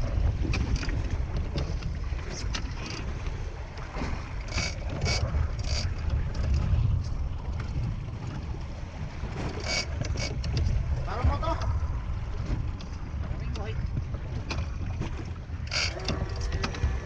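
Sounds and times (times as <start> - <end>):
boat engine rumble: 0.0 - 17.0
water noise: 0.0 - 17.0
wind on microphone: 0.0 - 17.0.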